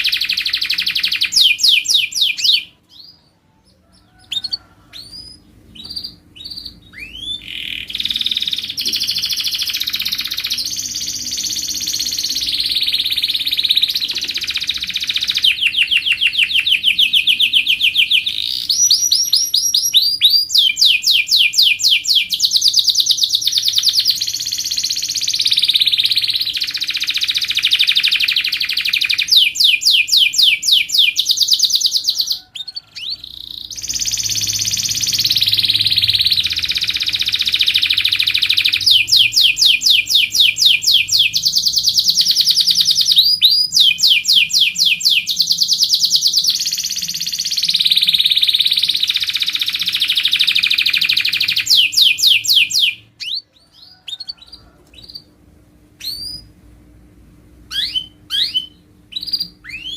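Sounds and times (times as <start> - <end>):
canary singing trills: 0.0 - 55.3, 56.0 - 56.6, 57.7 - 59.9.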